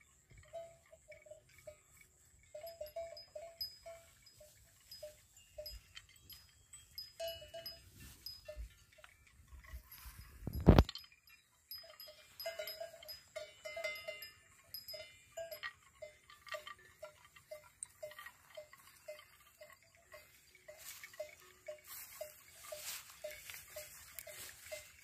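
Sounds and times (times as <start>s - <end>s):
cowbell clinking: 0.0s - 25.0s.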